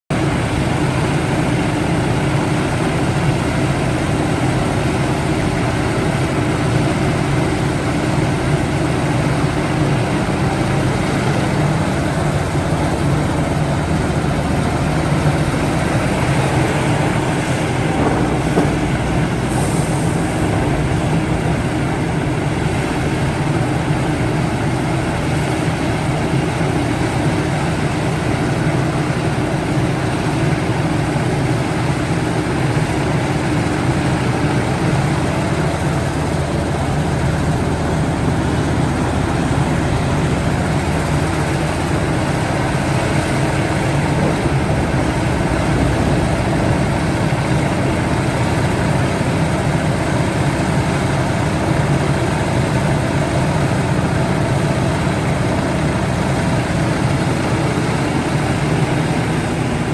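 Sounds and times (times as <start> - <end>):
heavy diesel excavator engine: 0.1 - 59.9.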